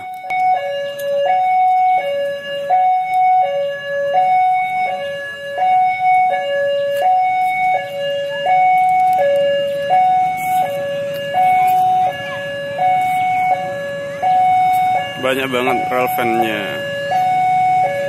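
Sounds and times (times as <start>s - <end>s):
level crossing two-note alarm: 0.0s - 18.0s.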